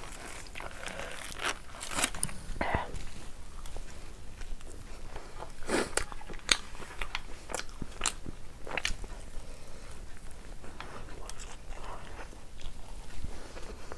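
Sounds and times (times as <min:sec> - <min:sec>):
person chewing food: 0:00.0 - 0:13.9.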